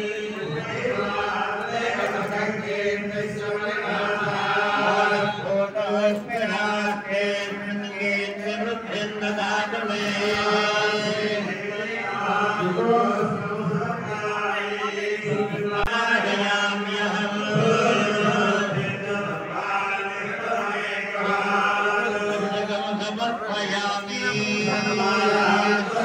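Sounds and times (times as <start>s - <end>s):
men chanting: 0.0s - 26.0s.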